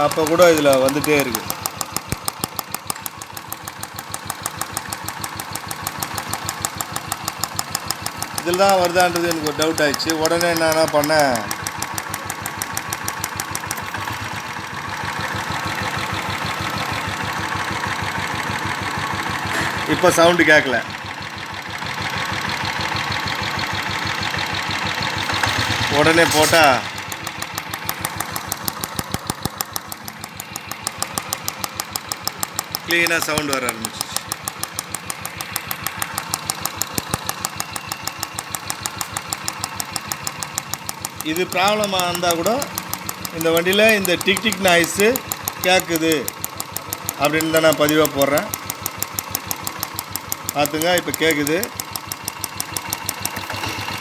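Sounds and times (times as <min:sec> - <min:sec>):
motorcycle engine idling: 0:00.0 - 0:54.0
rapid valve ticking: 0:00.0 - 0:54.0.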